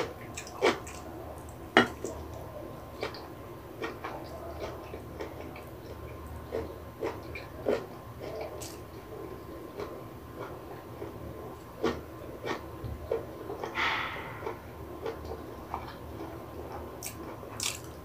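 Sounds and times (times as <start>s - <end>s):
close-miked mouth chewing: 3.0s - 18.0s.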